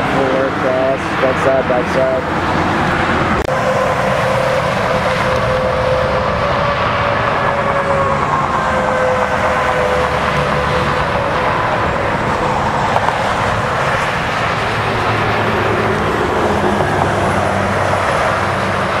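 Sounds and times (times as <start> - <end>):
high whine: 0.0 - 19.0
vehicle engine drone: 0.0 - 19.0.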